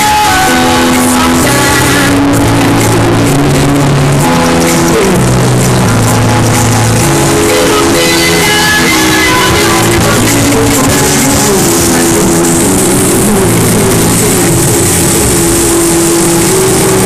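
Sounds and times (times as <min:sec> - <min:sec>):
loud guitar music over speakers: 0:00.0 - 0:17.0.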